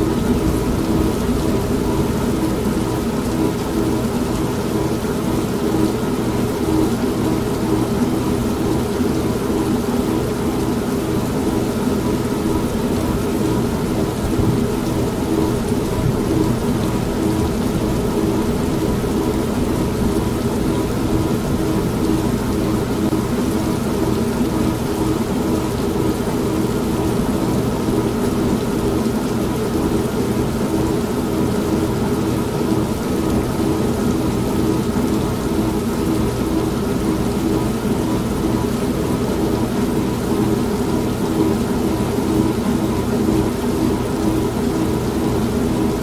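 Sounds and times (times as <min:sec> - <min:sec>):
steady rain: 0:00.0 - 0:46.0
washing machine motor hum: 0:00.0 - 0:46.0.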